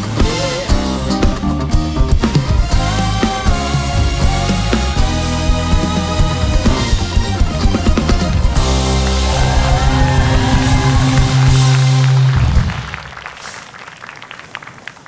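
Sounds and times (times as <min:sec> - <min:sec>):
rock theme music with drums and guitar: 0:00.0 - 0:12.6.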